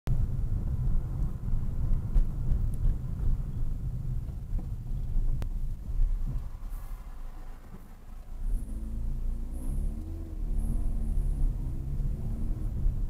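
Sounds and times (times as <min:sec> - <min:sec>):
car engine and tyres rumbling: 0:00.1 - 0:13.0.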